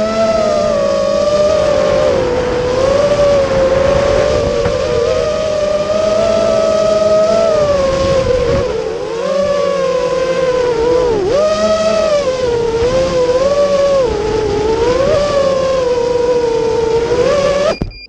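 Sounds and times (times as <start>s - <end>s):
high-pitched motor running: 0.0s - 17.9s.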